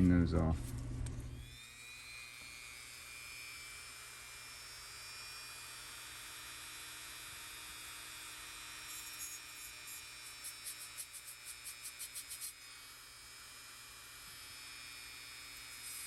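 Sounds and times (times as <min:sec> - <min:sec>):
rotary tool wire brush whine: 0:00.6 - 0:16.0.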